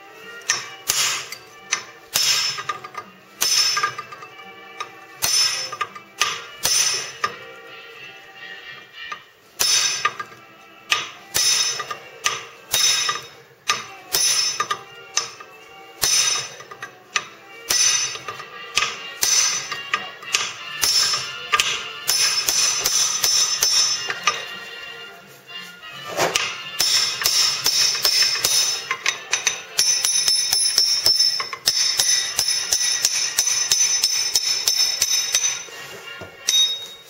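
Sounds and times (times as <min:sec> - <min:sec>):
hammer striking metal: 0:00.4 - 0:07.5, 0:09.0 - 0:24.5, 0:26.1 - 0:35.8, 0:36.4 - 0:37.0.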